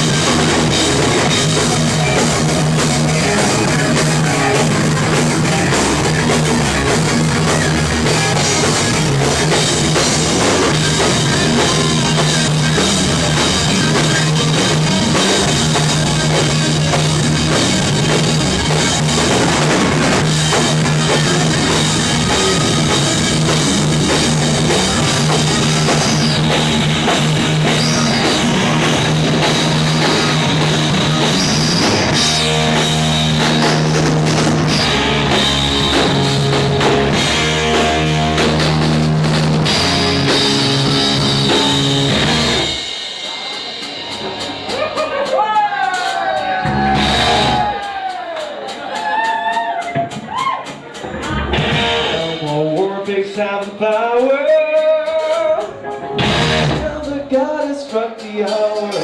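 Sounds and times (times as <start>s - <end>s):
electric guitar: 0.0s - 45.3s, 46.1s - 48.3s, 50.9s - 54.2s, 55.0s - 57.6s
bass guitar: 0.0s - 49.0s, 50.0s - 59.0s
drum kit: 0.0s - 59.0s.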